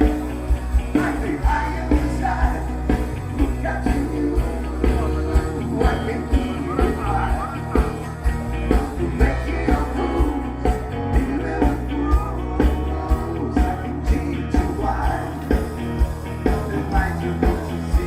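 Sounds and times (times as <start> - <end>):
guitar: 0.0 - 18.0
rock song: 0.0 - 18.0
steady drum beat: 0.0 - 18.0
person singing: 0.9 - 15.8, 16.4 - 18.0.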